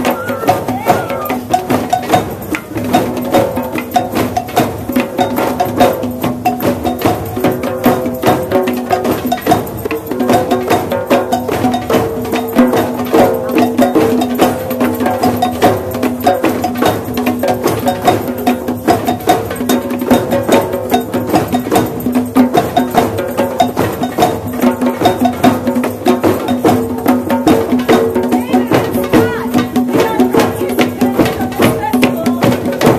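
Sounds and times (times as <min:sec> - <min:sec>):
drum circle playing: 0:00.0 - 0:32.9.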